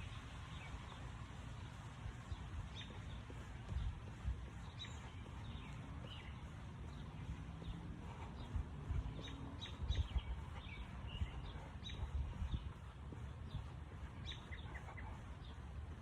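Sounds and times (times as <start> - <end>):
small birds chirping: 0.0 - 16.0
dull low thumps: 0.9 - 16.0.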